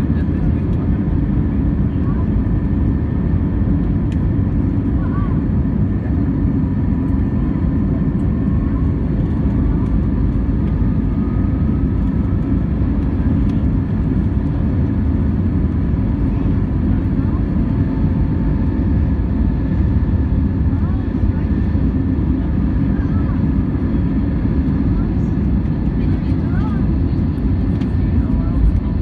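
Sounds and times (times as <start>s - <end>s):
jet engines rumbling in cabin: 0.0s - 29.0s.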